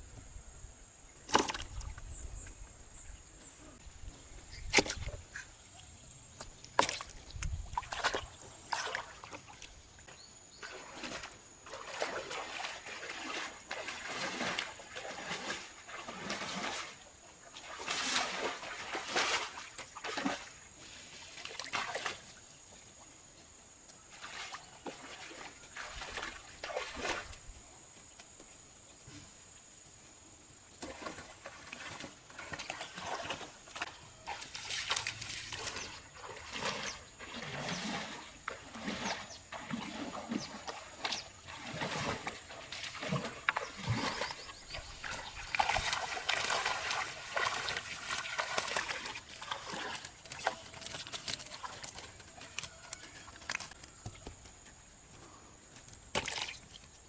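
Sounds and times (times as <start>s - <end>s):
water splashing and sloshing: 1.2s - 28.5s, 30.6s - 57.0s.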